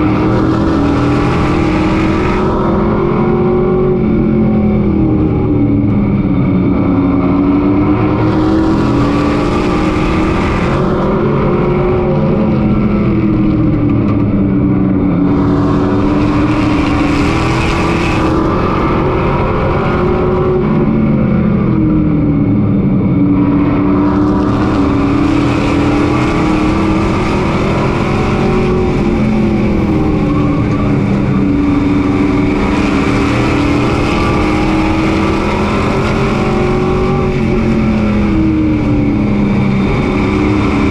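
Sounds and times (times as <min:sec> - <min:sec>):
race truck engine at high revs: 0:00.0 - 0:40.9.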